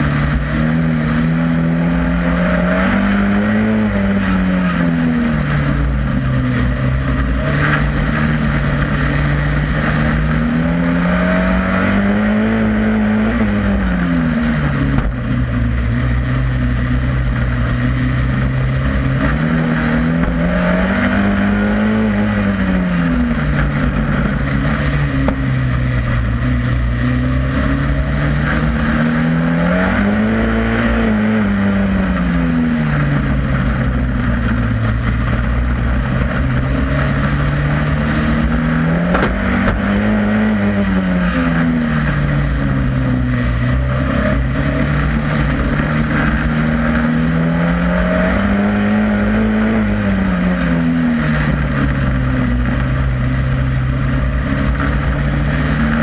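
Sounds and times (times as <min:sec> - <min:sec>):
race car engine accelerating: 0:00.0 - 0:56.0
wind and tyre noise: 0:00.0 - 0:56.0.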